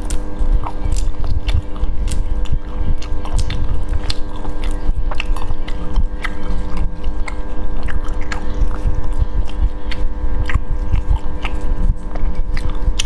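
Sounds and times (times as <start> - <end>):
steady low hum: 0.0 - 13.0
wet chewing: 0.0 - 13.0.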